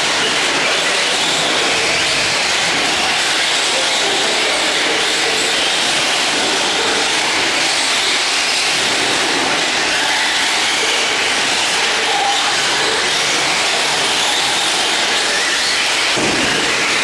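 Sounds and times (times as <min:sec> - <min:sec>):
rc trucks motor and tyre noise: 0:00.0 - 0:17.0.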